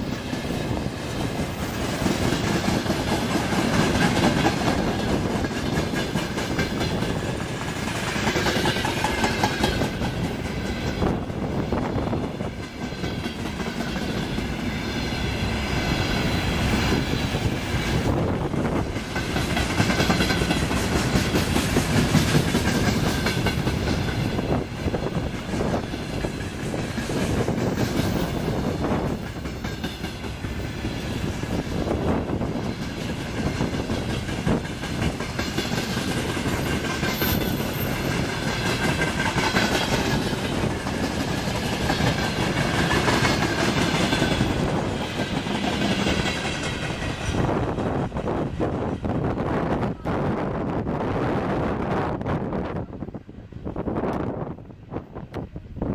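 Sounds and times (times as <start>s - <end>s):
train wheels clattering over rail joints: 0.0s - 49.3s
high ringing of wheels on rails: 0.0s - 50.3s
wind noise: 0.0s - 55.9s.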